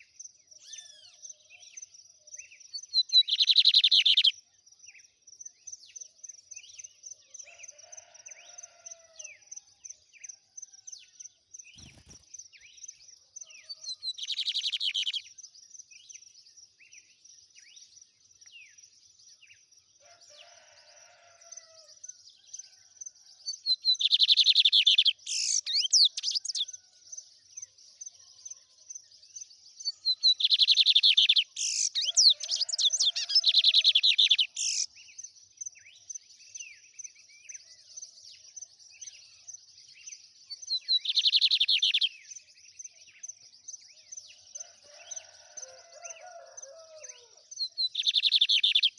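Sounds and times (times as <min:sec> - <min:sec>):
bird singing rapid trills: 0:00.0 - 0:07.1, 0:10.0 - 0:19.6, 0:22.6 - 0:44.4, 0:47.0 - 0:48.9
soft bird chirps: 0:00.0 - 0:21.8, 0:22.6 - 0:48.9.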